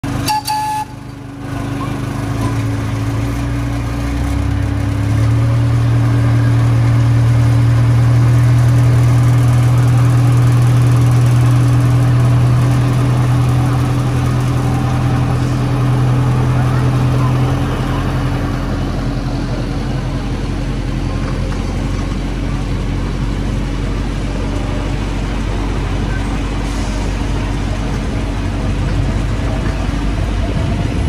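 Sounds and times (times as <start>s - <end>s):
miniature train engine hum: 0.0s - 31.0s.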